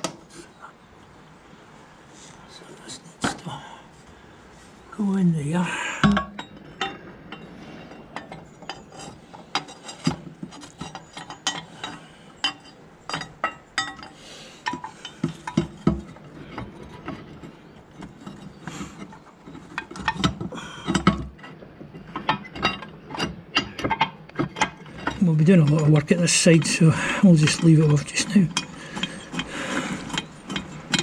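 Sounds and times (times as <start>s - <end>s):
metallic clinks of parts and tools: 6.0s - 31.0s.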